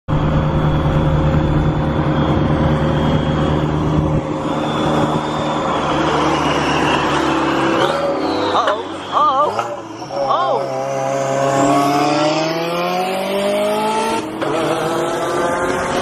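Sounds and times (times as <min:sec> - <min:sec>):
car engines droning: 0:00.1 - 0:16.0
wind and road noise: 0:00.1 - 0:16.0.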